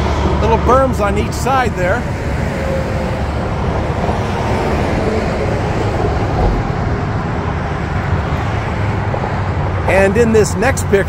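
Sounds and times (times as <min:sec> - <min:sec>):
cars and trucks passing: 0:00.0 - 0:11.0.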